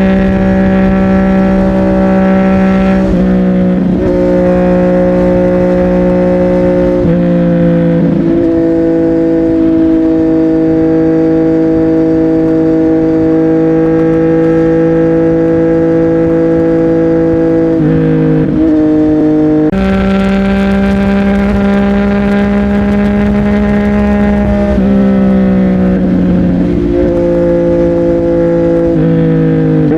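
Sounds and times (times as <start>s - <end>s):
motorcycle exhaust note: 0.0s - 29.9s.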